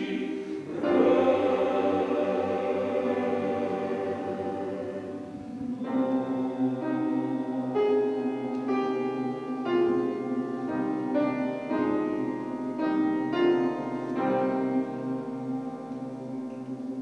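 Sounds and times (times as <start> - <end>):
mixed choir singing chords: 0.0 - 17.0
piano accompaniment: 0.0 - 17.0.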